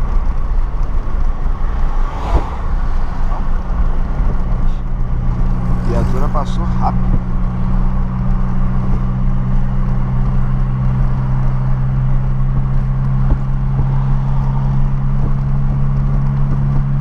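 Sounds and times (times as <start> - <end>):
car engine cruising: 0.0 - 17.0
road rumble: 0.0 - 17.0.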